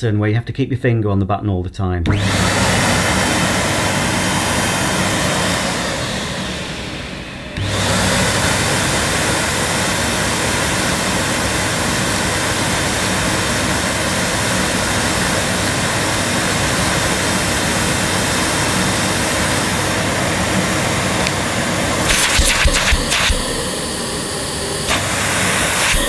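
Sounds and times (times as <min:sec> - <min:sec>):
vacuum cleaner running: 0:02.1 - 0:26.0.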